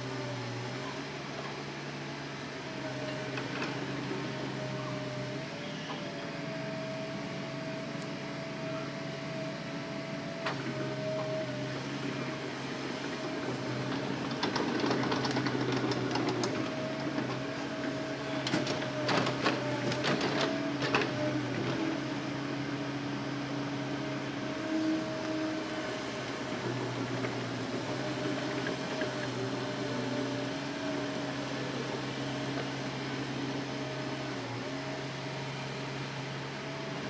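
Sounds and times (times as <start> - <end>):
excavator engine and hydraulics whining: 0.0 - 37.0.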